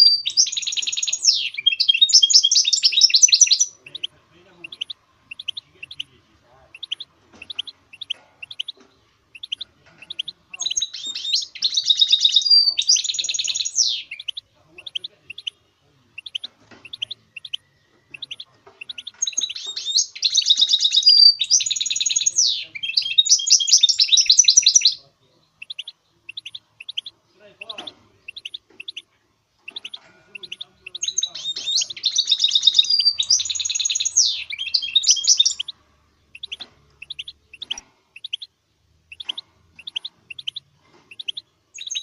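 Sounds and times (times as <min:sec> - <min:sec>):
finch singing trills: 0:00.0 - 0:42.0.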